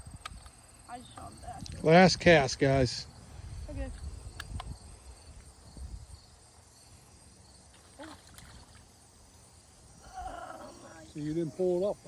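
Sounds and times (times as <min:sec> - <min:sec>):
faint insect trill: 0:00.0 - 0:12.0.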